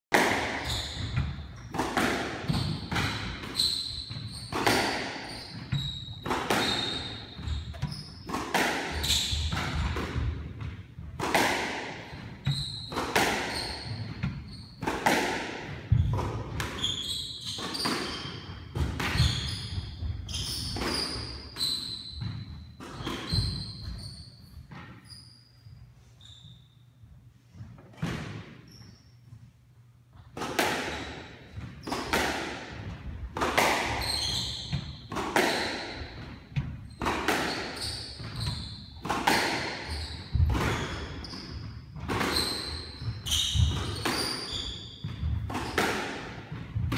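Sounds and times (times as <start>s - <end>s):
squash ball smacking racquets and walls: 0.1s - 25.2s, 27.1s - 46.9s
sneakers squeaking on hardwood floor: 0.3s - 46.9s.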